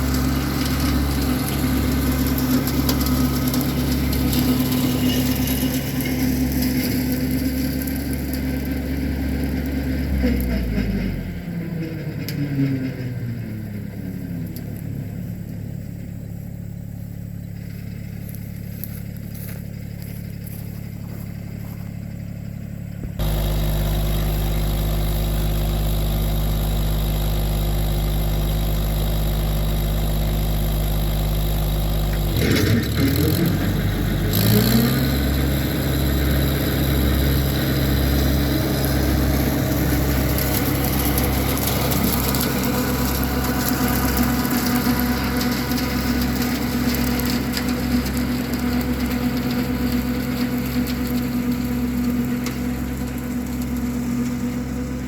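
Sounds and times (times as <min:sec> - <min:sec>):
tractor diesel engine: 0:00.0 - 0:55.0.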